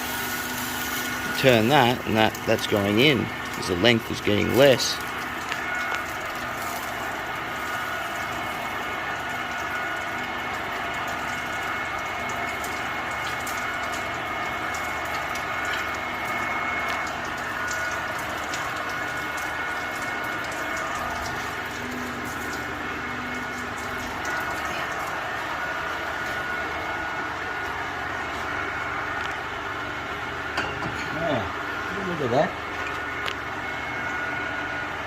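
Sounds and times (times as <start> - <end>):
metal lathe whining: 0.0 - 35.0.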